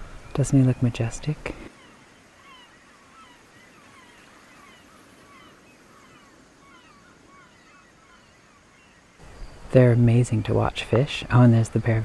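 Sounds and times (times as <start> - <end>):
soft background hiss: 0.0 - 12.0.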